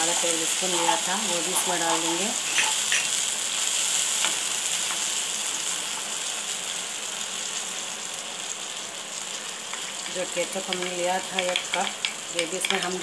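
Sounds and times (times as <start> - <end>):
sauce sizzling in hot oil: 0.0 - 13.0.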